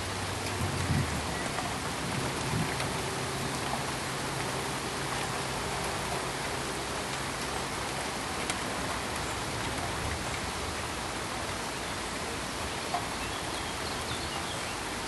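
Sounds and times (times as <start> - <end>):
steady pink noise hiss: 0.0 - 15.0.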